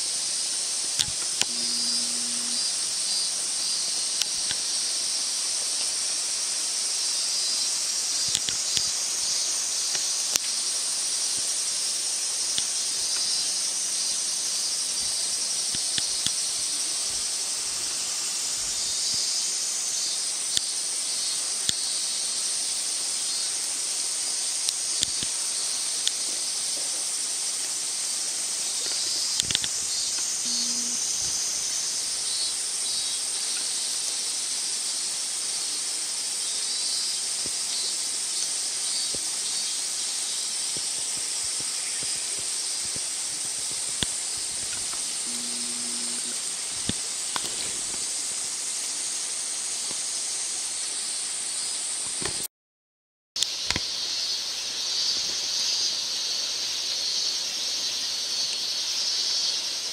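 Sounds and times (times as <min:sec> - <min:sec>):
steady high hiss: 0:00.0 - 0:52.5, 0:53.4 - 0:59.9.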